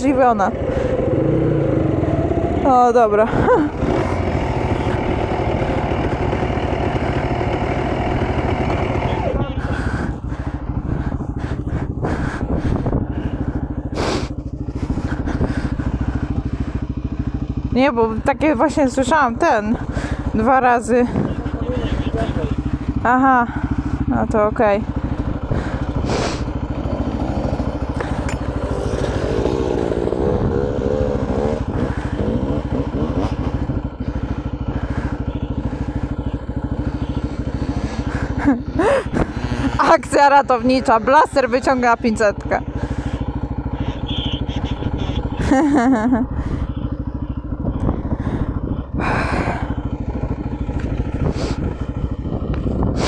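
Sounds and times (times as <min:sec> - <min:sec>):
engine revving: 0:00.0 - 0:53.0
two-stroke engine idling: 0:00.0 - 0:53.0.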